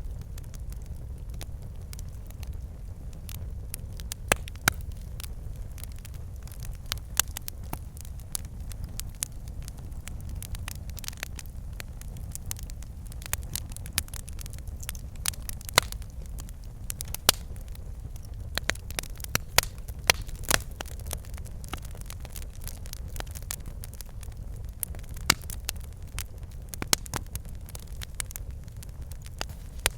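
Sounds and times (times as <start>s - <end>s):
fire crackling and popping: 0.0s - 29.9s
fire low rumble: 0.0s - 29.9s.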